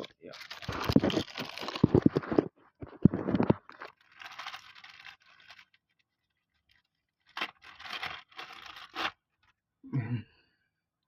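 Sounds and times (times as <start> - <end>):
crinkly rustling: 0.0 - 9.6.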